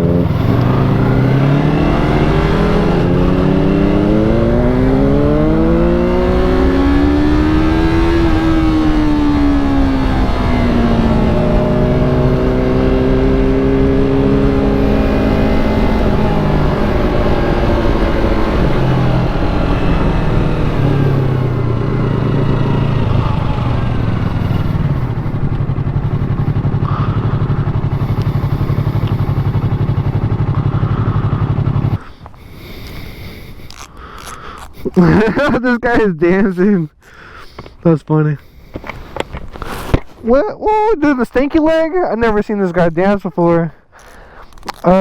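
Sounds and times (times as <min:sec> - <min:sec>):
motorcycle engine slowing and idling: 0:00.0 - 0:37.8, 0:38.4 - 0:40.9.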